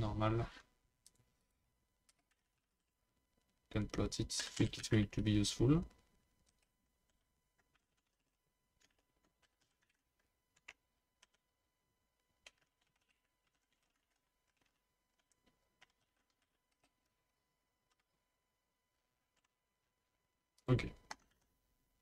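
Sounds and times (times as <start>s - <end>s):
faint keyboard typing: 1.0s - 11.6s, 12.2s - 18.4s, 19.1s - 19.9s, 20.5s - 21.6s.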